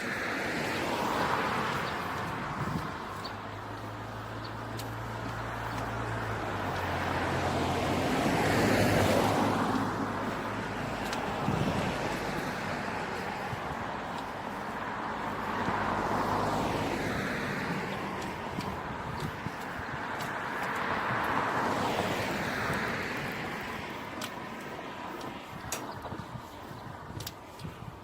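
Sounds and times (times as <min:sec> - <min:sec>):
low engine hum: 0:00.0 - 0:23.7
cars passing: 0:00.0 - 0:28.0.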